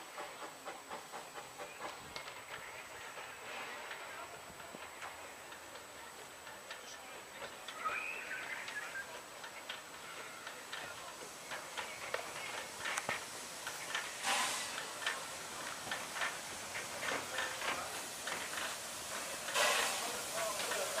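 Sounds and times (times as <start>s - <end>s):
steam hiss: 0.0s - 21.0s
steam locomotive clicks: 0.0s - 21.0s.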